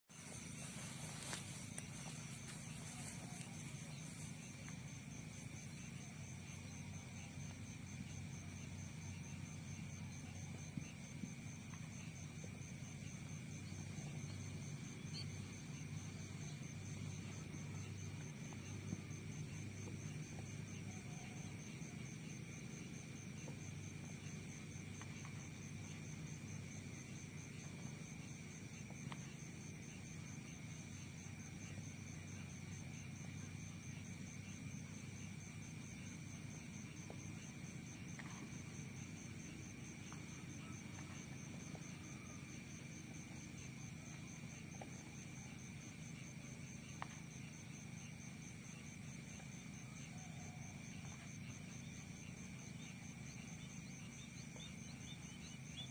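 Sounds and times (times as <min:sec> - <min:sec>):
crickets trilling: 0:00.1 - 0:55.9
faint low rumble: 0:00.2 - 0:55.8.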